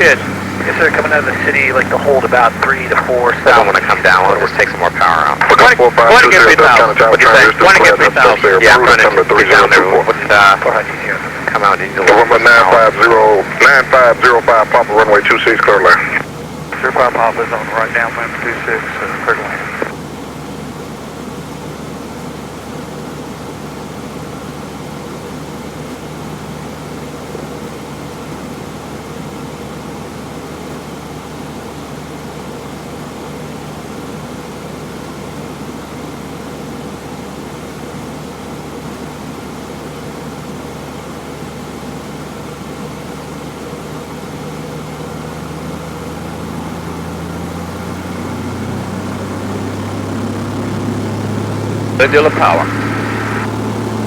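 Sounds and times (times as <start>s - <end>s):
propeller aircraft engine droning: 0.0s - 54.0s.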